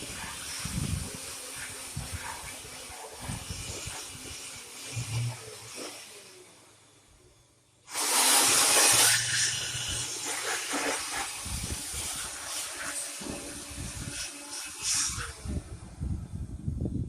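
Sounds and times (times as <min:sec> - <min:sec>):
cordless blower rush of air: 0:00.0 - 0:06.3, 0:07.9 - 0:17.0.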